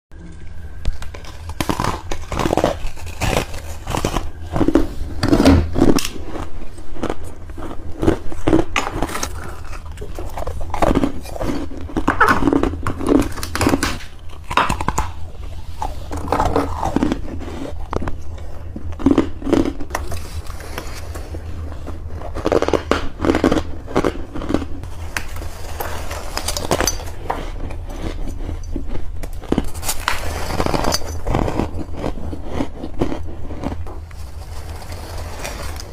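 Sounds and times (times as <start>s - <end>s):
ice being chewed: 0.2s - 35.9s.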